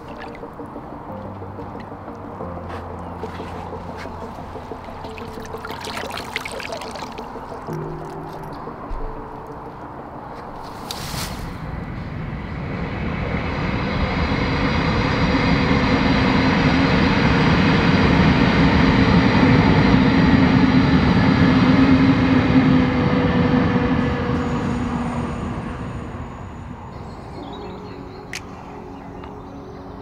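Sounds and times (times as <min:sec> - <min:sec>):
passenger train passing: 0:00.0 - 0:30.0.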